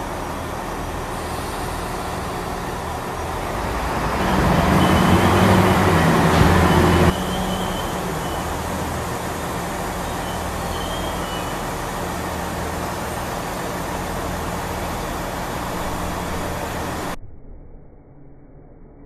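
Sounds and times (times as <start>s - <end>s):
electric train humming: 0.0s - 17.2s
faint high whine: 0.0s - 19.0s.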